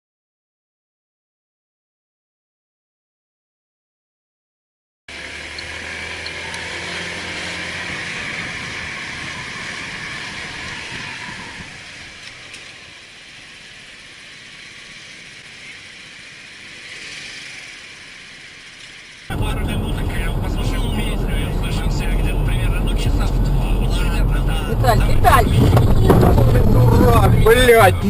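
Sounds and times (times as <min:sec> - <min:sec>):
car engine hum: 0:05.1 - 0:28.0
road noise: 0:05.1 - 0:28.0.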